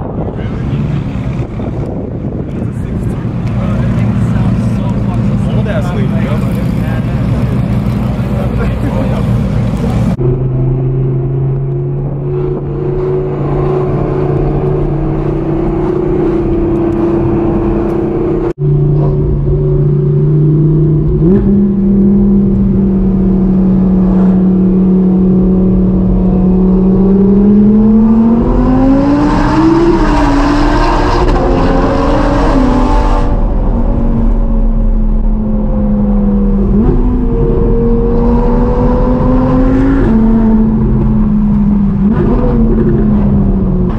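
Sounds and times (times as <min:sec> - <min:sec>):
sports car engine revving: 0:00.3 - 0:43.9.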